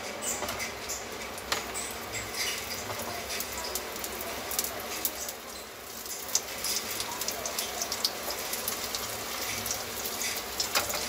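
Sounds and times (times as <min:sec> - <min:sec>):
patties sizzling in a pan: 0:00.2 - 0:11.0.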